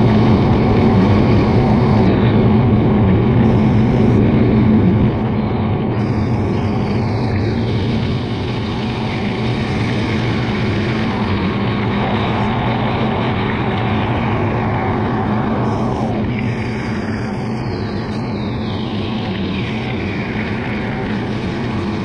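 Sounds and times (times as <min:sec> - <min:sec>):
harvester engine and chopper drone: 0:00.0 - 0:22.0.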